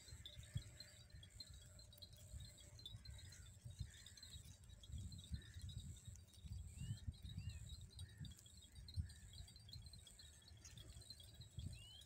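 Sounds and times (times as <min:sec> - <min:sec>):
high insect trill: 0:00.0 - 0:12.0
small birds chirping: 0:00.0 - 0:12.0.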